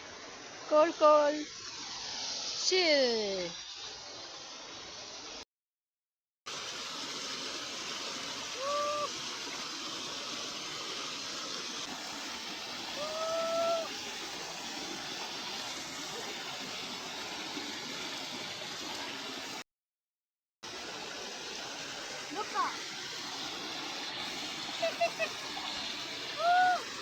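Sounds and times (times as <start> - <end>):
small waterfall rushing: 0.0 - 5.4, 6.5 - 19.6, 20.6 - 27.0.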